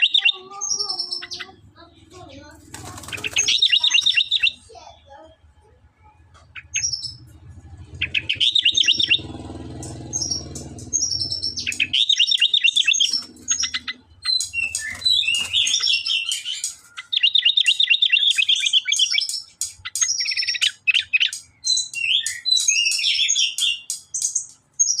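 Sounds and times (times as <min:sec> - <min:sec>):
bird singing rapid chattering notes: 0:00.0 - 0:25.0.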